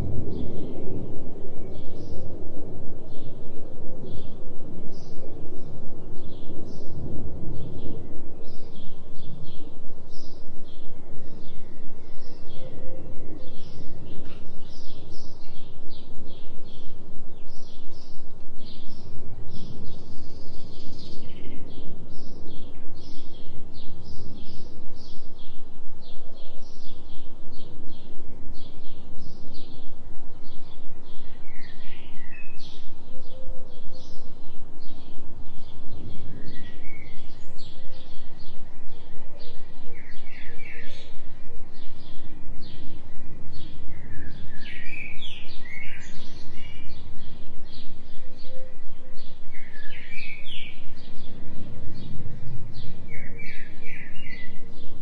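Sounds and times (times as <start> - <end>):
forest birds chirping: 0.0 - 55.0
pulsing low binaural tone: 0.0 - 55.0.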